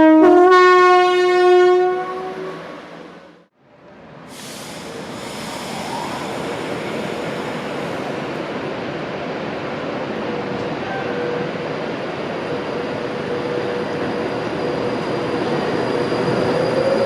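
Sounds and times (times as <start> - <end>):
train running on track: 0.0 - 17.0.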